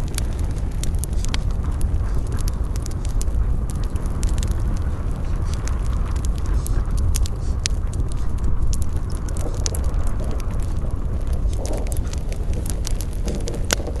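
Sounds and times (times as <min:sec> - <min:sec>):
campfire crackling and popping: 0:00.0 - 0:14.0
low rumble: 0:00.0 - 0:14.0.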